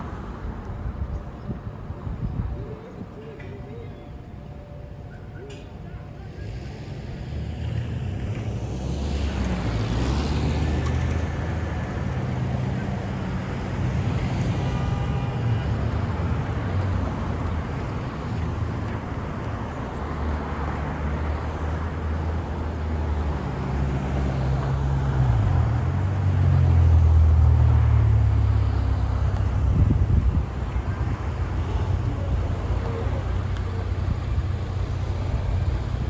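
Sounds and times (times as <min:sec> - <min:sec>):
road traffic: 0:00.0 - 0:36.0
heavy vehicle engine passing: 0:06.3 - 0:36.0.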